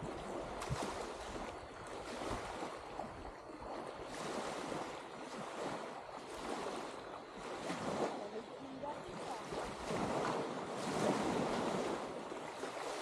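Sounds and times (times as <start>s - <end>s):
small waves washing onto sand: 0.0s - 13.0s
wind rumbling on microphone: 0.0s - 13.0s.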